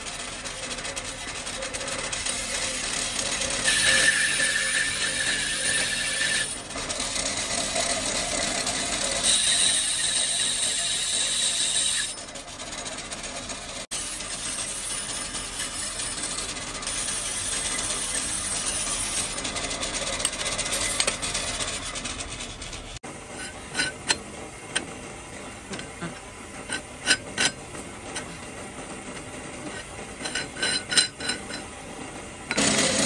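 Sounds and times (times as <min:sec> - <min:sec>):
tool rasping and scraping: 0:00.0 - 0:33.0.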